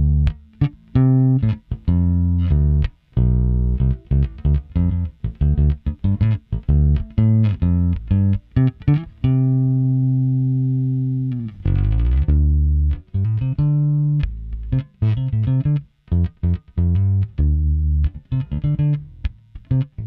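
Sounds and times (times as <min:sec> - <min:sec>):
bass guitar plucked notes: 0:00.0 - 0:20.0.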